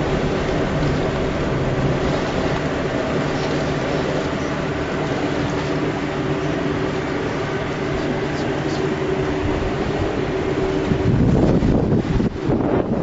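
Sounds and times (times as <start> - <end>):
low rumble: 0.0 - 13.0
rushing noise: 0.0 - 13.0
ship engine drone: 0.0 - 13.0.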